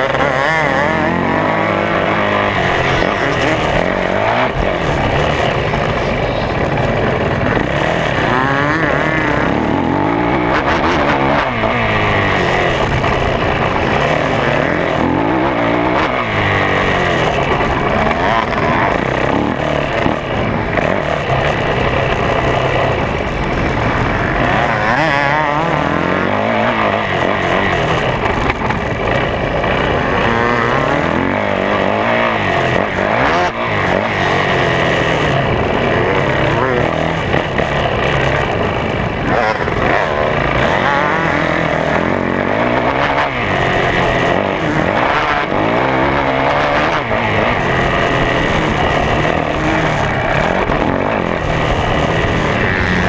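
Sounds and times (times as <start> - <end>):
motocross engine revving hard: 0.0 - 53.0.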